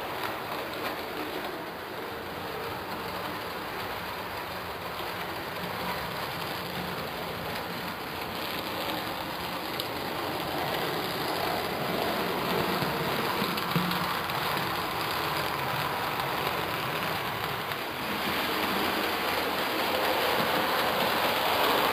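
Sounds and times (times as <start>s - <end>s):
model train running on track: 0.0s - 21.9s.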